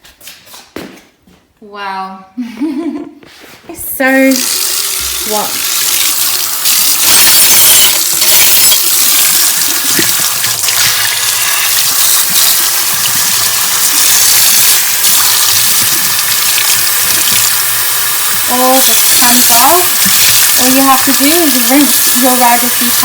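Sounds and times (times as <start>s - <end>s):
water running: 3.9s - 23.0s
cloth being rinsed: 4.2s - 23.0s.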